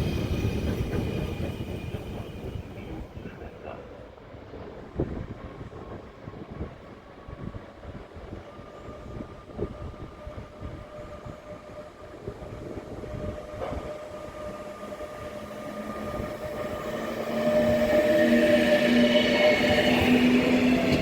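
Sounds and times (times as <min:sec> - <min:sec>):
train rail noise: 0:00.0 - 0:21.0.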